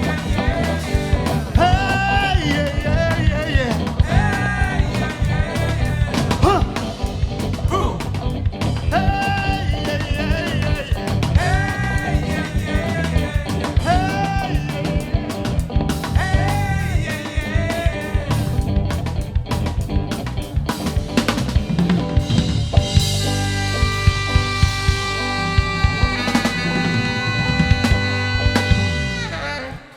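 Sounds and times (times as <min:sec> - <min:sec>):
drum kit beat: 0:00.0 - 0:29.9.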